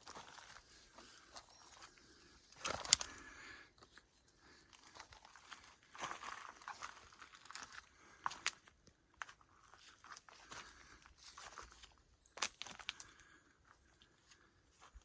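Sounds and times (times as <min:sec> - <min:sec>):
rustling and crinkling: 0:00.0 - 0:03.2, 0:03.8 - 0:13.3
crunch: 0:00.0 - 0:15.0.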